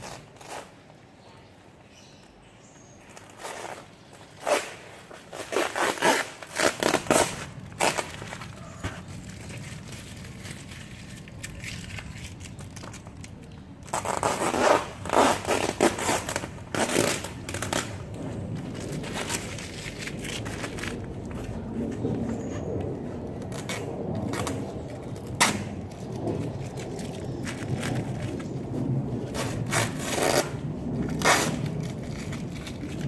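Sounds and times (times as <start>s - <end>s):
packaging crinkling and rustling: 3.0s - 33.0s
packaging ripping: 3.2s - 21.6s, 23.4s - 33.0s.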